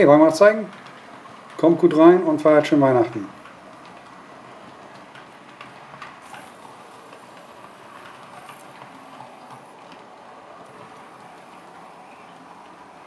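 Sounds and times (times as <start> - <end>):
model train wagons rolling: 0.0 - 13.0
wheel clicks over rail joints: 0.0 - 13.0.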